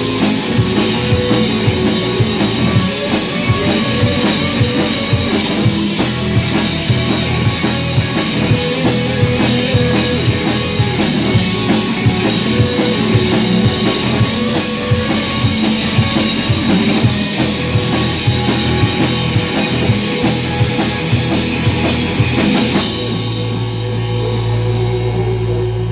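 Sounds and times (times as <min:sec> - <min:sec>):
drum kit beat: 0:00.0 - 0:25.2
rock band playing live: 0:00.0 - 0:25.9.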